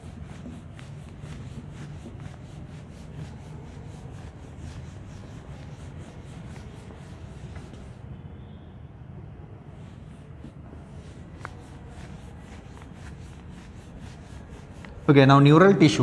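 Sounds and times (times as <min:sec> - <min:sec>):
duster rubbing on whiteboard: 0:00.0 - 0:08.1, 0:09.7 - 0:15.3.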